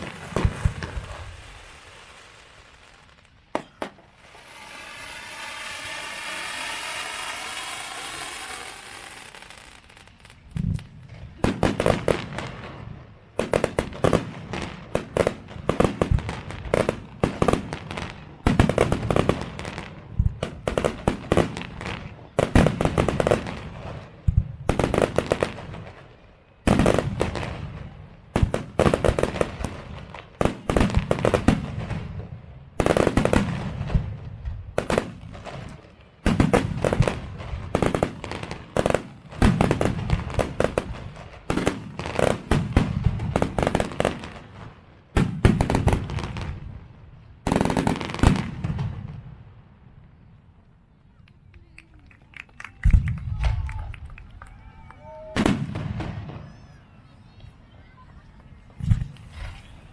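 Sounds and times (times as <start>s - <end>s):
fireworks bangs and crackling: 0.0s - 50.4s, 52.8s - 59.9s.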